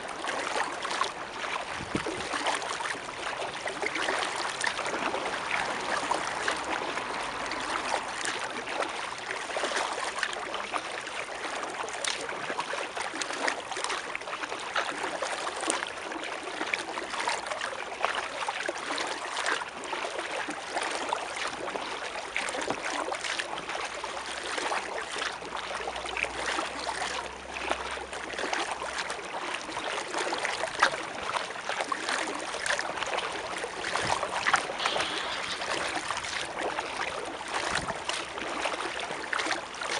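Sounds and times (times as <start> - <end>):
river water splashing: 0.0 - 39.9.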